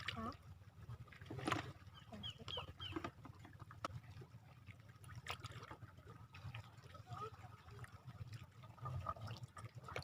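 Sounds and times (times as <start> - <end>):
small clicks and splashes: 0.0 - 10.0
water lapping at shoreline: 0.0 - 10.0.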